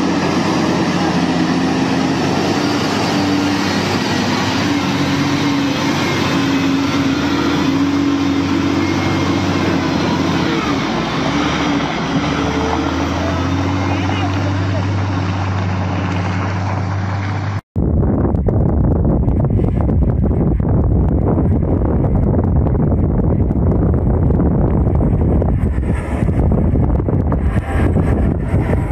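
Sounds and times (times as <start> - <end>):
diesel truck engine running: 0.0 - 28.9.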